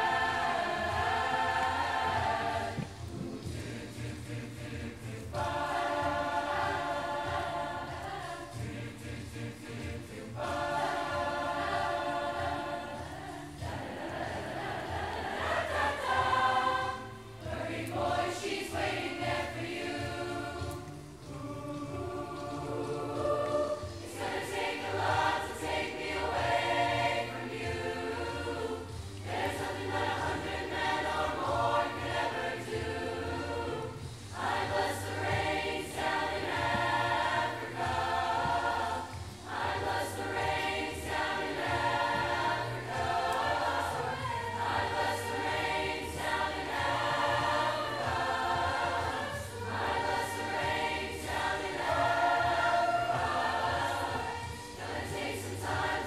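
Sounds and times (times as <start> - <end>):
large choir singing: 0.0 - 56.0.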